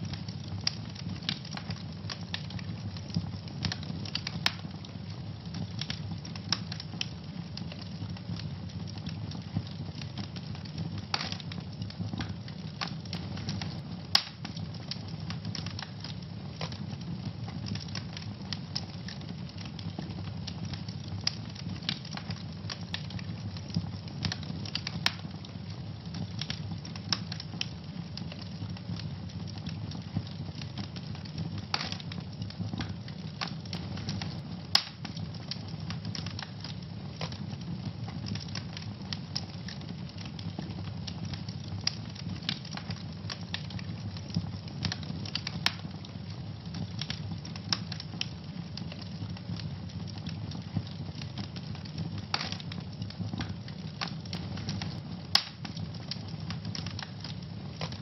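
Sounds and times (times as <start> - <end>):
fire flames rumbling: 0.0 - 58.0
fire pops and crackles: 0.0 - 58.0.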